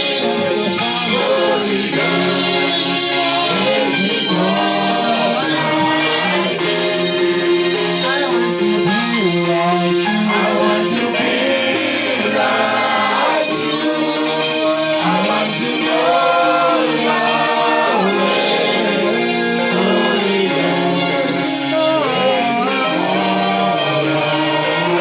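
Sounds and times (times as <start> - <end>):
backing music: 0.0 - 25.0
gospel choir singing: 0.0 - 25.0.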